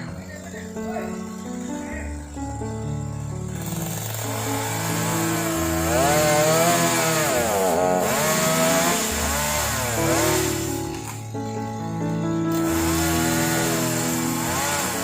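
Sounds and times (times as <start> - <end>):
background music with held chords: 0.0 - 15.0
chainsaw running and cutting: 0.0 - 15.0.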